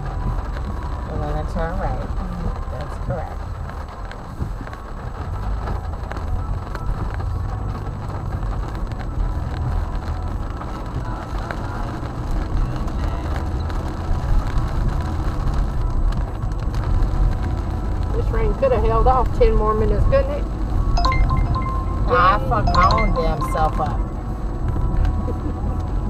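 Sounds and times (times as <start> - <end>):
rain ticking on car roof: 0.0 - 26.0
road and engine rumble: 0.0 - 26.0.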